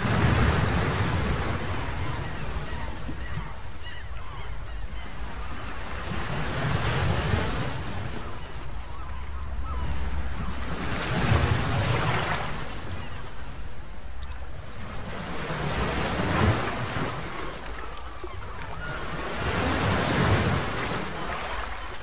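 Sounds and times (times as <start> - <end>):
surf washing: 0.0 - 22.0.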